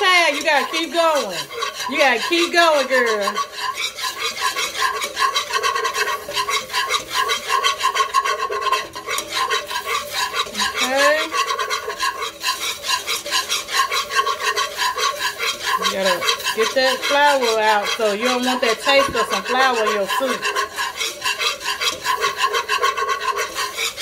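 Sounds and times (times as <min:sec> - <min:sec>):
whisk scraping a pot: 0:00.0 - 0:24.0.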